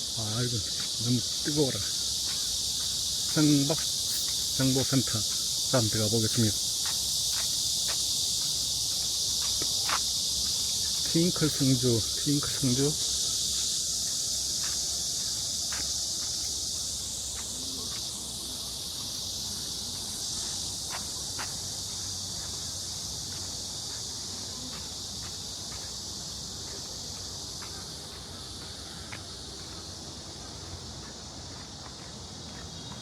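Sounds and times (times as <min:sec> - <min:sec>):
cicadas shrilling: 0:00.0 - 0:33.0.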